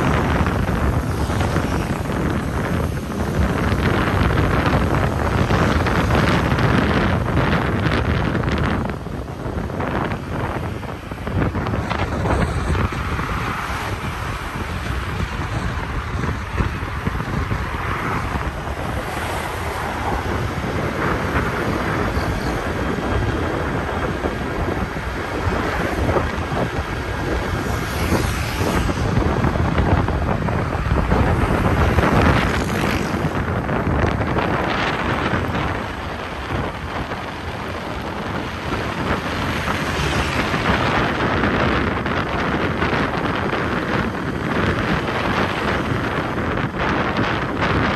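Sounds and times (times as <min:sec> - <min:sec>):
vehicle road and engine noise: 0:00.0 - 0:47.9
wind buffeting microphone: 0:00.0 - 0:47.9.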